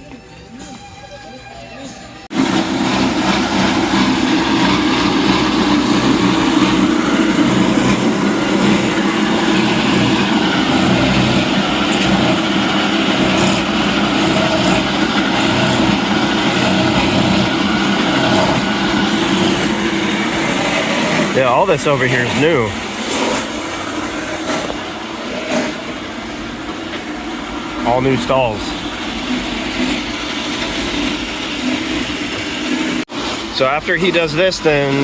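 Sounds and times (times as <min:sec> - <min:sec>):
motorized coconut grater running: 0:02.3 - 0:35.0.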